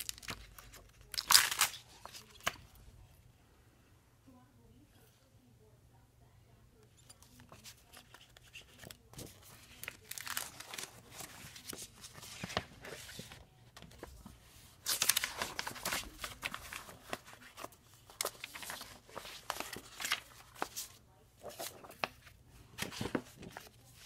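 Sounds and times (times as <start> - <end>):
paper rustling and crinkling: 0.0 - 2.8, 7.2 - 24.0.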